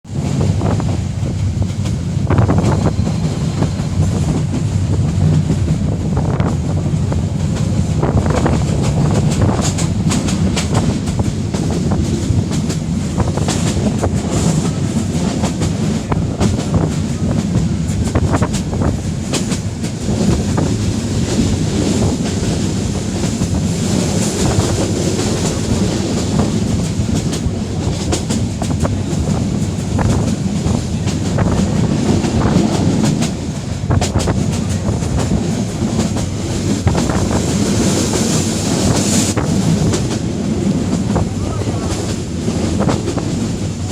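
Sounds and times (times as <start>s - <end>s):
train rumble: 0.0s - 43.9s
wheels clacking over rail joints: 1.4s - 43.9s.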